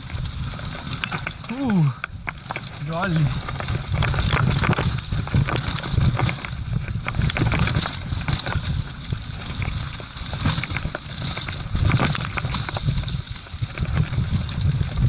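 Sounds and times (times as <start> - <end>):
bike rattling and knocking: 0.0 - 15.0
tyres crunching over dirt: 0.0 - 15.0
wind rumble on microphone: 0.0 - 15.0.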